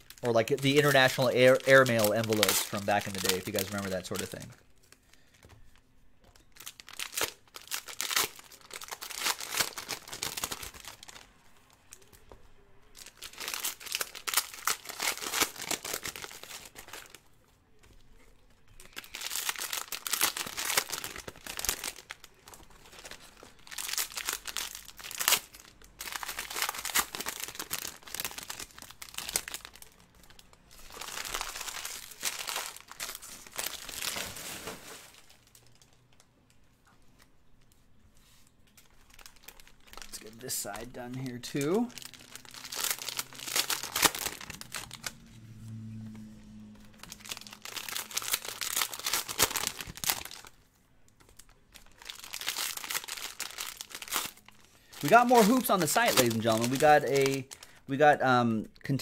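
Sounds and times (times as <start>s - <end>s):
foil wrappers crinkling and tearing: 0.0s - 5.8s, 6.4s - 12.2s, 12.8s - 36.0s, 38.7s - 45.2s, 46.8s - 58.0s.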